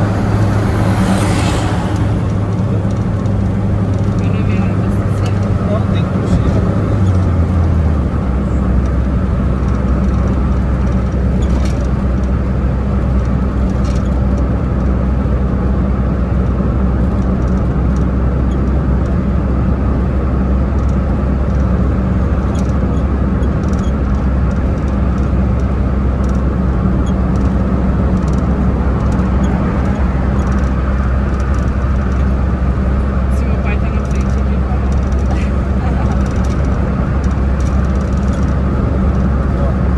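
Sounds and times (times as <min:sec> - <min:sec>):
car engine drone: 0:00.0 - 0:39.9
road noise: 0:00.0 - 0:39.9.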